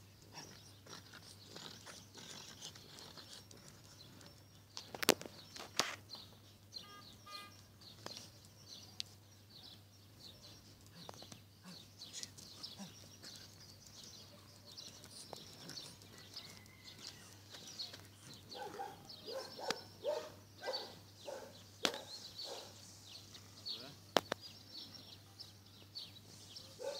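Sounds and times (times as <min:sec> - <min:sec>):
birds chirping: 0:00.0 - 0:26.9.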